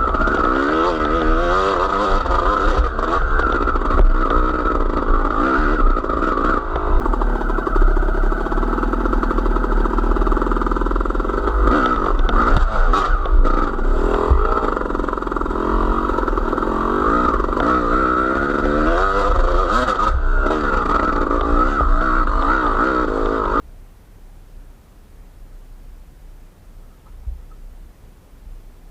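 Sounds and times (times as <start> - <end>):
vehicle engine revving: 0.0 - 23.6.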